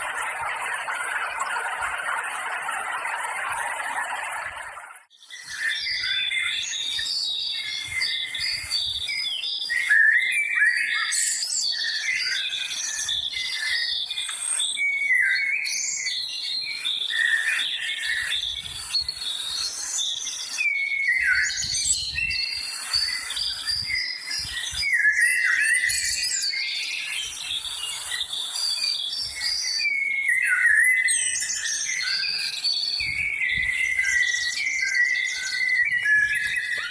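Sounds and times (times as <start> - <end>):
birds chirping and whistling: 0.0 - 36.9.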